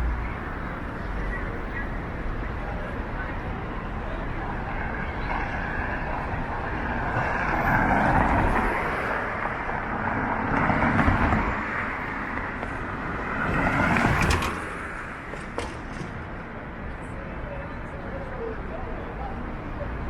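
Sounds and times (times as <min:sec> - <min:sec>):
cars passing: 0:00.0 - 0:20.0.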